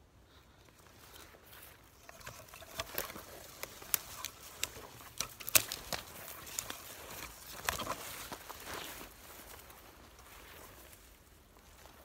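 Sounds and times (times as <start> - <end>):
footsteps through brush: 0.0 - 12.0
leaves rustling: 0.0 - 12.0
twigs snapping underfoot: 0.8 - 11.1.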